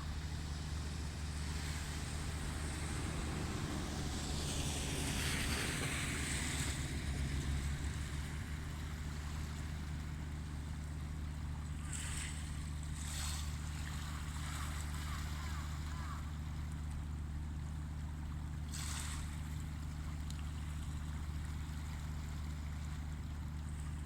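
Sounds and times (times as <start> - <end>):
ship engines droning: 0.0 - 24.0
waves breaking: 0.0 - 24.0.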